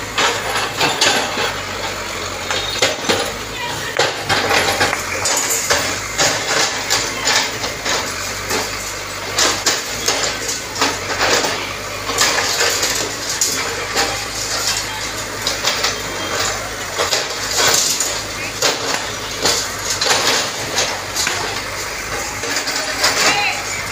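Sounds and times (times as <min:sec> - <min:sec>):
bricks crashing down: 0:00.0 - 0:23.9
diesel engine running: 0:00.0 - 0:23.9.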